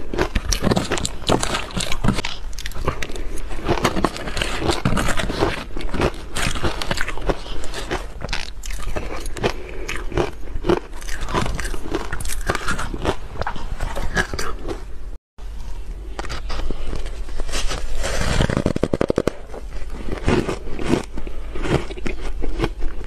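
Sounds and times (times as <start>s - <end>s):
crunching ice chewing: 0.0s - 14.8s, 18.0s - 23.0s.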